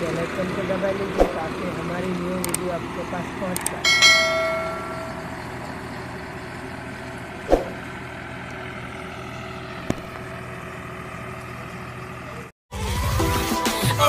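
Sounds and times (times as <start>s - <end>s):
tractor diesel engine running: 0.0s - 12.5s.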